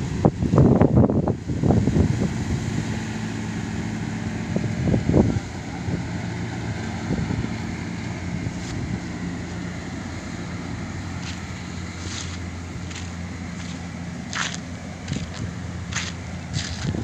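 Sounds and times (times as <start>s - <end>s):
combine harvester engine droning: 0.0s - 17.0s
wind gusts on microphone: 0.0s - 17.0s.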